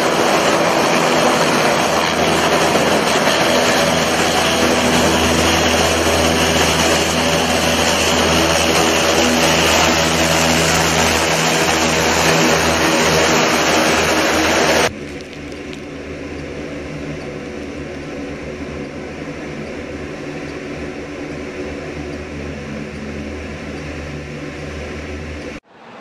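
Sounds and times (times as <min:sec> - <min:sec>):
engine drone: 0:00.0 - 0:26.0
hovercraft turbines roaring: 0:00.0 - 0:26.0.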